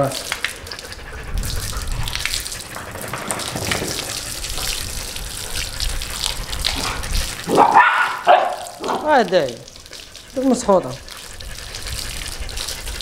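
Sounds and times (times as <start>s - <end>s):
hose water spraying and splashing: 0.0s - 13.0s.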